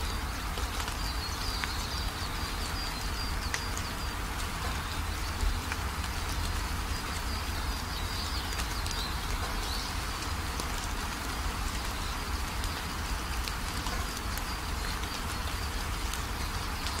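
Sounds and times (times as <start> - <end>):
light ticks: 0.5 - 17.0.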